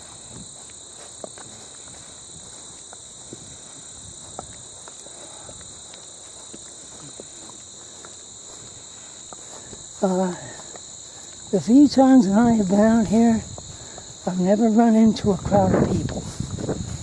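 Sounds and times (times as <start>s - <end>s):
high-pitched insect chorus: 0.0s - 17.0s
soft footsteps clicking: 0.0s - 17.0s.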